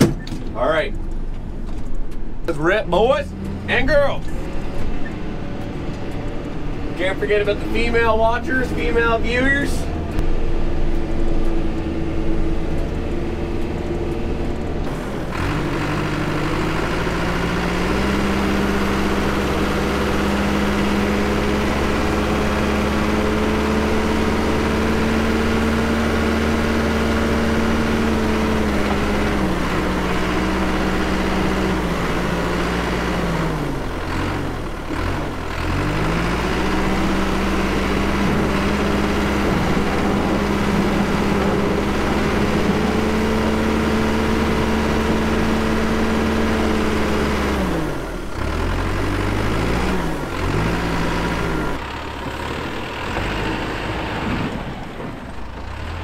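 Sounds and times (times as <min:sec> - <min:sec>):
diesel engine working: 0:00.0 - 0:56.0.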